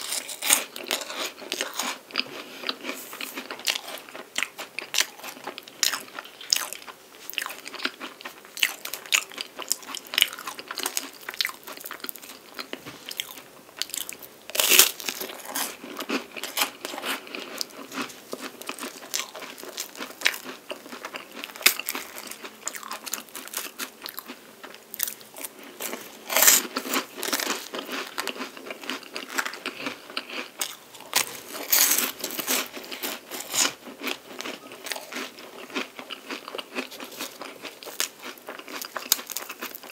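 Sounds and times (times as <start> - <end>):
crunching bites and chewing: 0.0 - 39.9.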